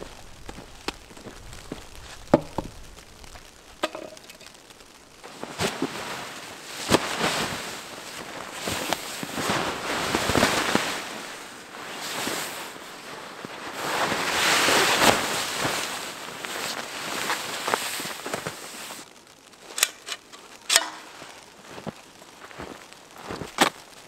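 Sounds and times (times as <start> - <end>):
sharp snaps and cracks: 0.0 - 11.1, 14.8 - 24.0.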